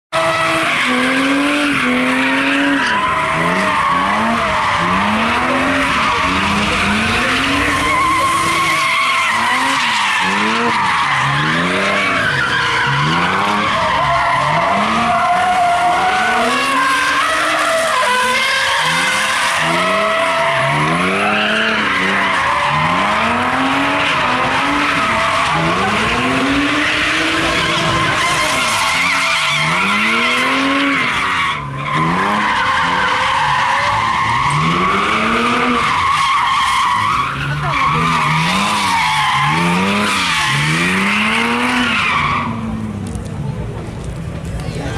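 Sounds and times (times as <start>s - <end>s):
tyres squealing on tarmac: 0.1s - 43.0s
car engines revving: 0.1s - 44.9s.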